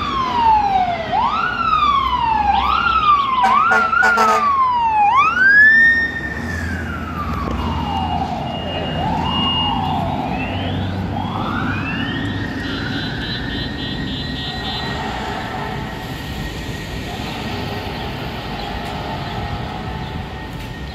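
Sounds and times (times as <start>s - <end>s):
fire truck sirens wailing: 0.0s - 20.9s
truck engine rumbling: 0.0s - 20.9s.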